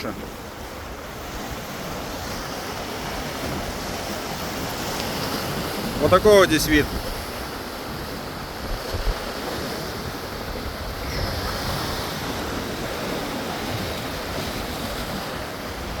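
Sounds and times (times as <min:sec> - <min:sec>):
surf washing onto shore: 0:00.0 - 0:16.0
wind buffeting microphone: 0:00.9 - 0:16.0.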